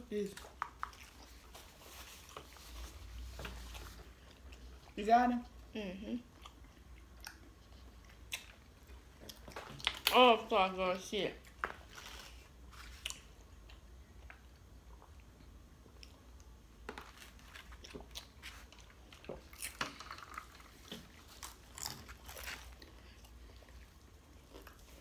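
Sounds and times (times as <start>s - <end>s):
chewing and crunching food: 0.2s - 10.1s, 11.4s - 25.0s.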